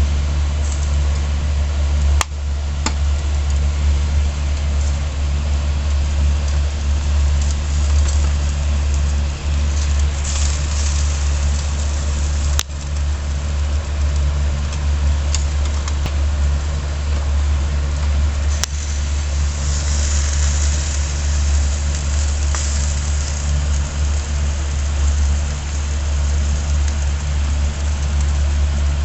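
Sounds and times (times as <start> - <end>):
charcoal fire crackling: 0.0 - 29.0
faint sizzle: 0.0 - 29.0
fire popping: 0.0 - 29.0
low rumble: 0.0 - 29.0.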